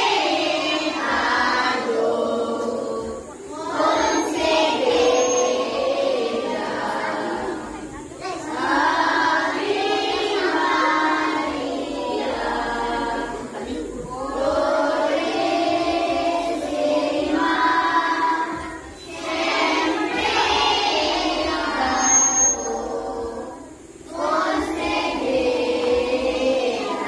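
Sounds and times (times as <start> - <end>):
congregation singing unaccompanied: 0.0 - 27.0.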